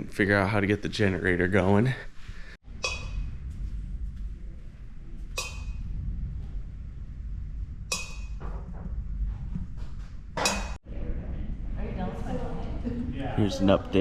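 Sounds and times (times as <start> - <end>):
steady low rumble: 2.6 - 14.0.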